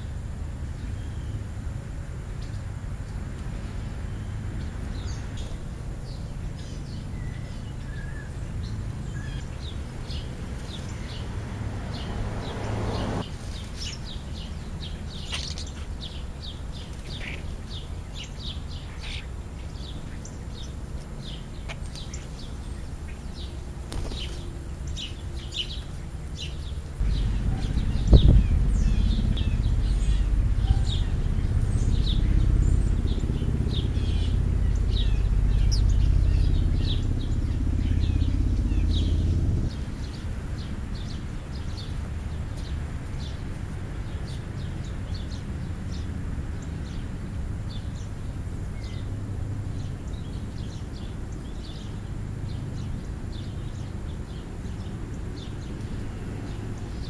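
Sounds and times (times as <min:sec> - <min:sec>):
road traffic rumble: 0:00.0 - 0:57.0
small birds chirping: 0:00.0 - 0:57.0.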